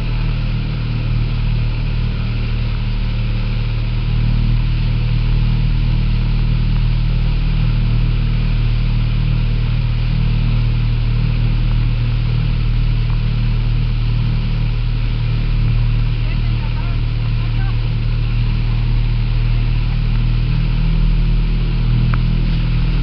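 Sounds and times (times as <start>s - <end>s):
motorboat engine humming: 0.0s - 23.0s.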